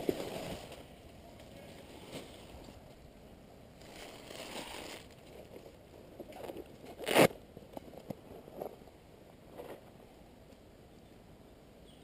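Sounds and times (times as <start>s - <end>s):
rustling of dry leaves and clothing: 0.0s - 11.3s.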